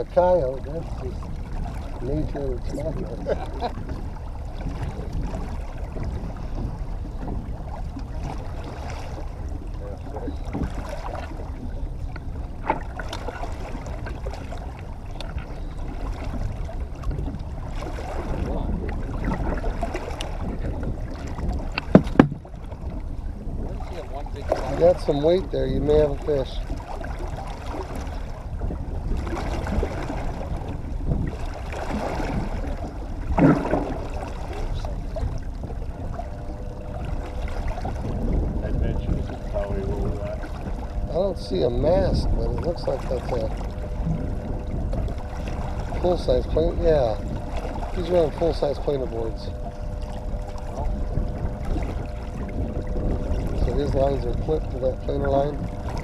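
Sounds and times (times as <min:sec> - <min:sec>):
boat motor running: 0:00.0 - 0:56.0
water noise: 0:00.0 - 0:56.0.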